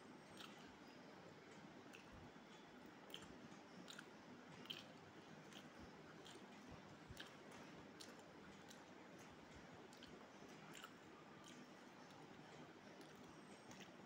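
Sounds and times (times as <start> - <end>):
faint chewing: 0.2 - 14.0
small irregular clicks: 1.5 - 14.0.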